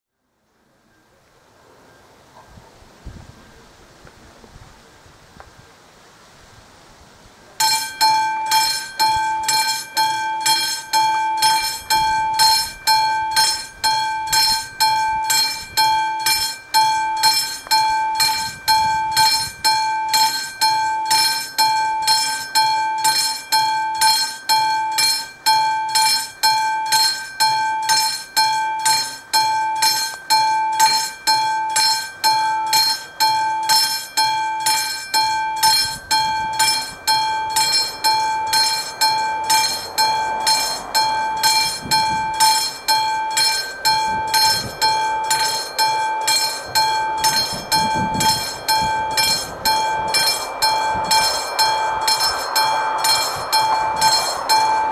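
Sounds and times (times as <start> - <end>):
level crossing warning bell: 7.5 - 54.9.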